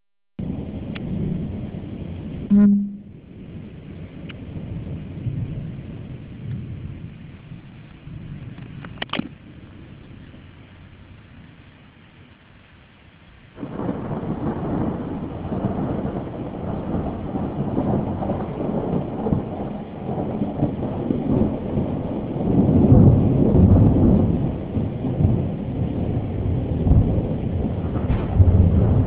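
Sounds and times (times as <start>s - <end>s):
rolling thunder: 0.4s - 10.5s, 13.6s - 29.0s.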